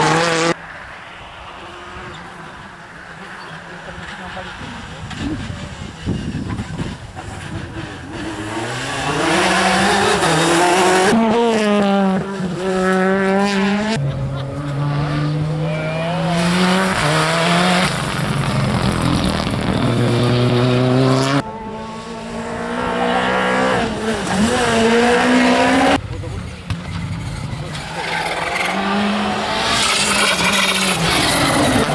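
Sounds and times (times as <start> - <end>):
rally car engines revving: 0.0 - 0.6, 1.3 - 31.9.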